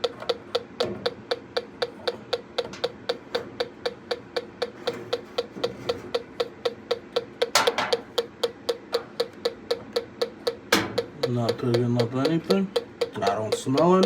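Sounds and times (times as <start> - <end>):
gas detector ticking: 0.0 - 14.0.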